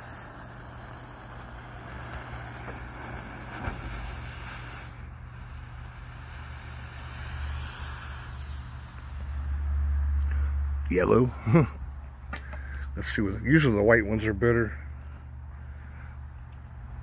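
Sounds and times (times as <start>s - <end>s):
fuse hissing and spitting sparks: 0.0s - 14.3s
smoke ball hissing: 0.0s - 17.0s.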